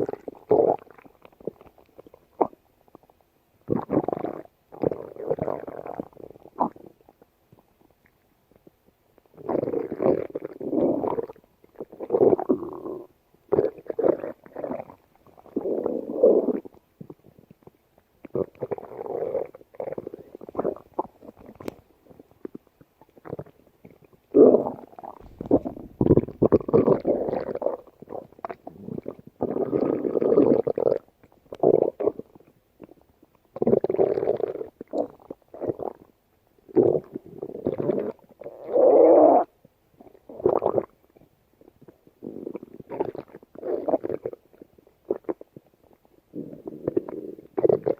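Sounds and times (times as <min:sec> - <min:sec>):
stomach growling: 0:00.0 - 0:47.9.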